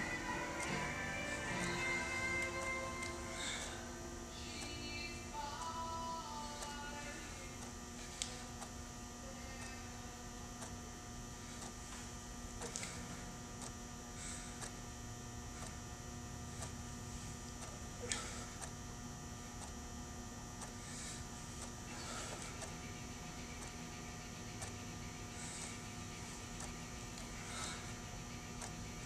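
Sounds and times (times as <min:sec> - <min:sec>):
electrical hum with hiss: 0:00.0 - 0:29.0.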